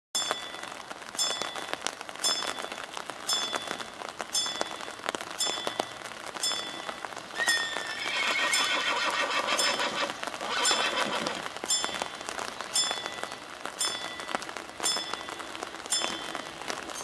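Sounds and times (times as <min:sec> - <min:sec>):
level crossing warning bell: 0:00.2 - 0:17.0
rain hissing: 0:00.2 - 0:17.0.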